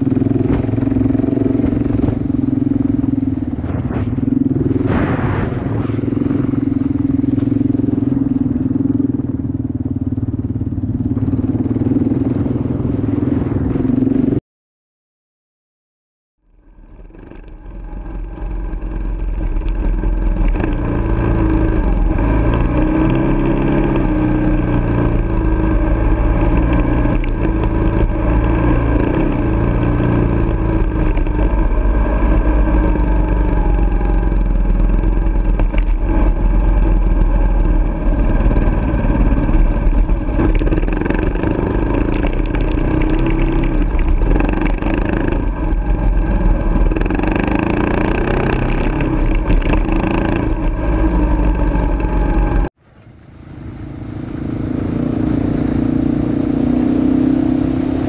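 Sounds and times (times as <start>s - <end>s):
motorcycle engine running: 0.0s - 14.4s, 16.4s - 58.0s.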